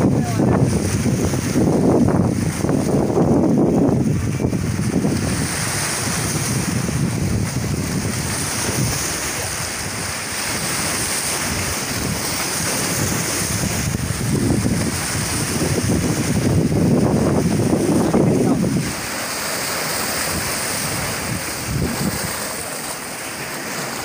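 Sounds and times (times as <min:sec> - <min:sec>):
waves breaking on rocks: 0:00.0 - 0:24.0
wind buffeting microphone: 0:00.0 - 0:24.0.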